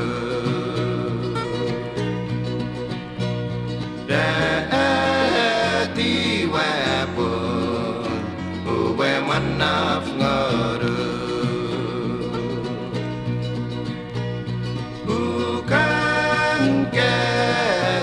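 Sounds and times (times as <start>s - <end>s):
song with guitar: 0.0s - 18.0s.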